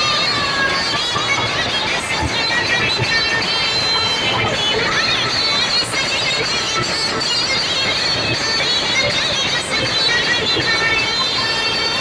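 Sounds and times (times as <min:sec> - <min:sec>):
loud dj music from sound system: 0:00.0 - 0:12.0.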